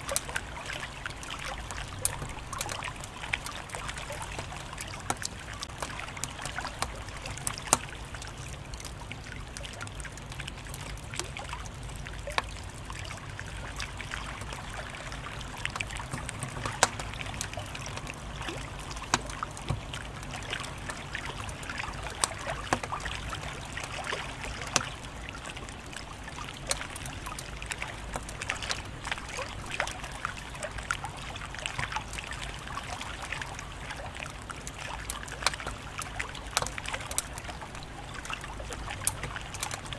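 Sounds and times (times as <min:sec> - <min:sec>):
wood fire crackling: 0:00.0 - 0:30.6, 0:31.7 - 0:39.9.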